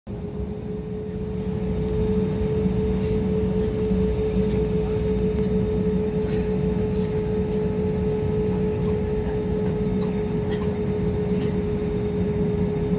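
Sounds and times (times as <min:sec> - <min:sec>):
airliner cabin engine drone: 0:00.1 - 0:12.9.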